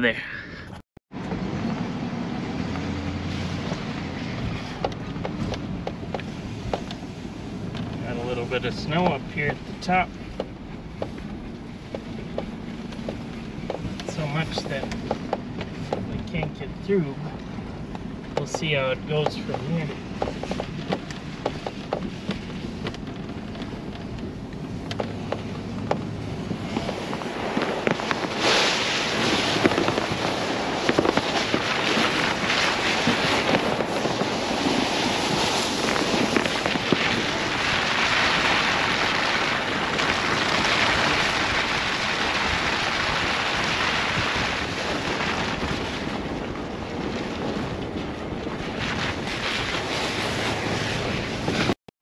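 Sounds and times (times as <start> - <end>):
tyres crackling on snow and gravel: 1.1 - 51.8
wind rushing over microphone: 1.1 - 51.8.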